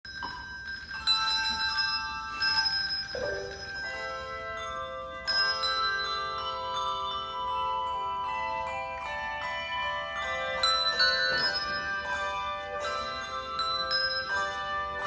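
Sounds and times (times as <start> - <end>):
handbell choir ringing chords: 0.1 - 15.0.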